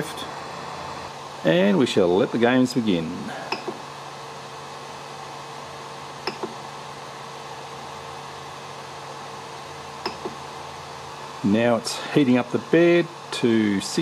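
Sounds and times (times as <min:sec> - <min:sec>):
cooling fans whirring: 0:00.0 - 0:14.0.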